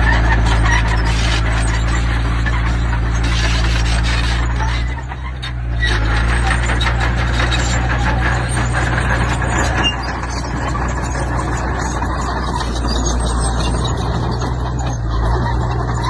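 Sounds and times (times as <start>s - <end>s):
diesel construction machine running: 0.0s - 16.0s
stones scraping and tumbling: 0.0s - 16.0s.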